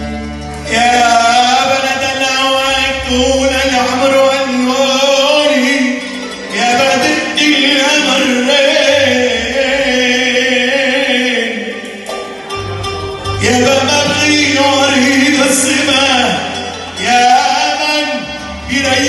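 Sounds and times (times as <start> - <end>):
man singing: 0.6 - 12.3, 13.3 - 19.0.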